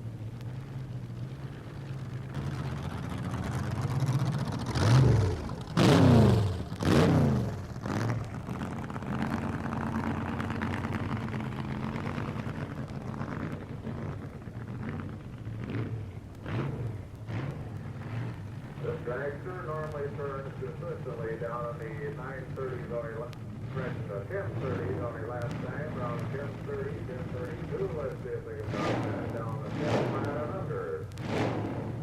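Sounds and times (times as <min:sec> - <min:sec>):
dragster engine idling and revving: 0:00.0 - 0:32.0.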